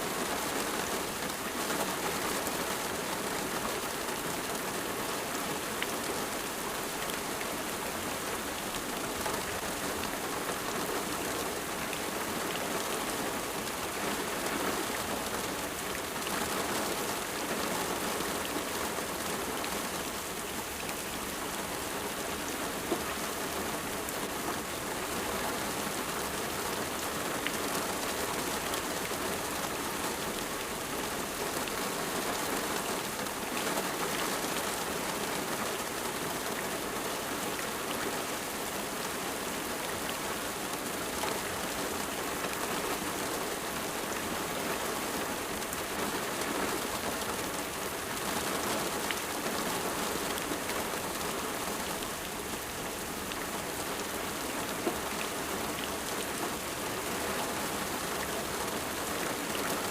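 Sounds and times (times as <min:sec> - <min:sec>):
rain pattering on surfaces: 0:00.0 - 0:59.9.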